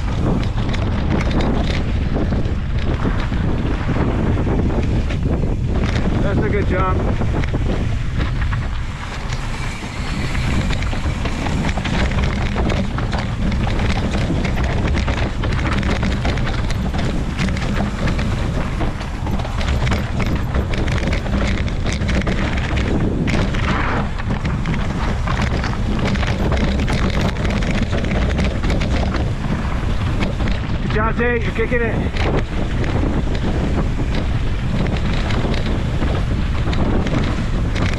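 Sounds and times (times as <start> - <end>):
mountain bike rattling on rocky trail: 0.0 - 37.9
wind rumbling on microphone: 0.0 - 37.9.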